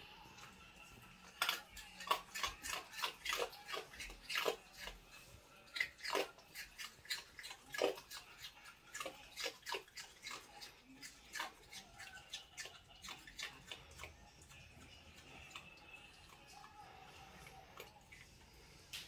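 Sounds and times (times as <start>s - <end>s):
raccoon crunching ice: 1.2s - 16.6s.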